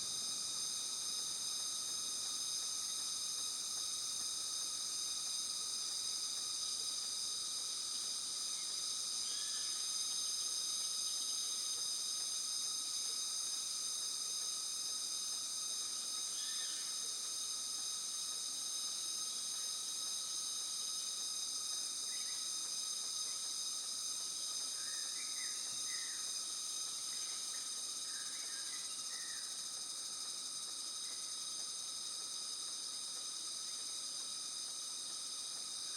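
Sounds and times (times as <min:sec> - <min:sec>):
insects chorus: 0:00.0 - 0:35.9.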